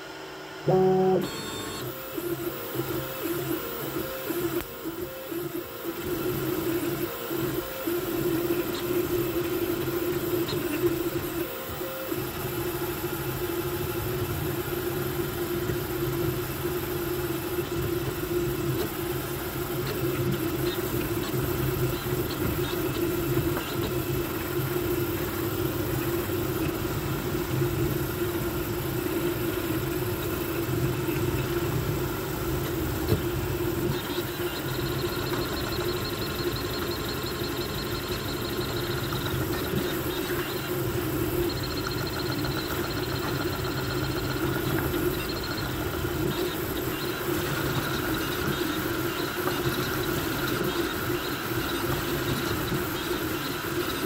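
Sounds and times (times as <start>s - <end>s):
cooling fans whirring: 0.0s - 54.0s
stepper motors humming and whining: 0.6s - 54.0s.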